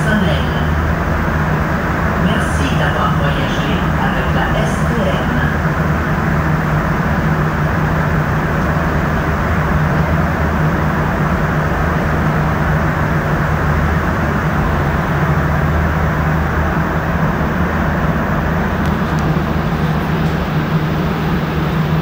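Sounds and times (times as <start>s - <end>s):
low hum: 0.0s - 22.0s
train rumbling through tunnel: 0.0s - 22.0s.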